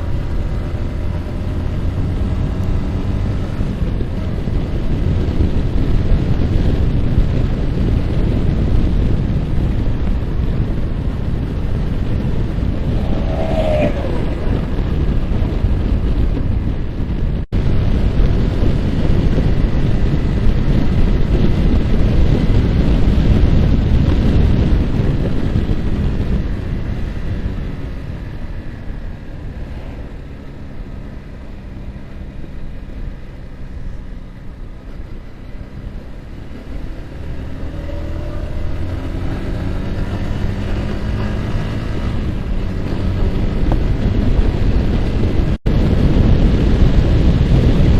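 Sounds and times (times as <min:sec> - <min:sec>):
motorcycle engine: 0:00.0 - 0:47.9
wind buffeting microphone: 0:00.0 - 0:47.9.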